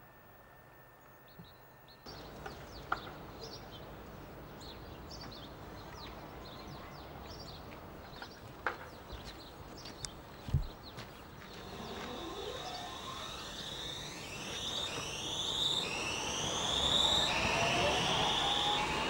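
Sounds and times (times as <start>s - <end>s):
small birds chirping: 1.0s - 17.4s.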